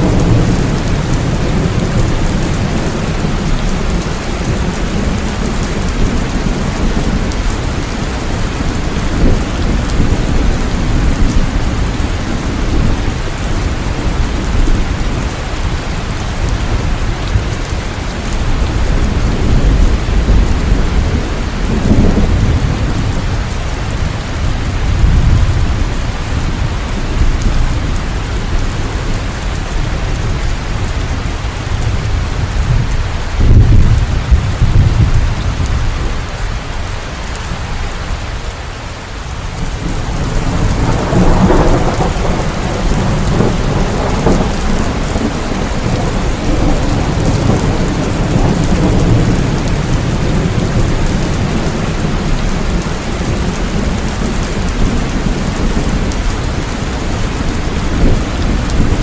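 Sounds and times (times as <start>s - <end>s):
rolling thunder: 0.0s - 36.4s, 39.5s - 59.0s
steady rain: 0.0s - 59.0s.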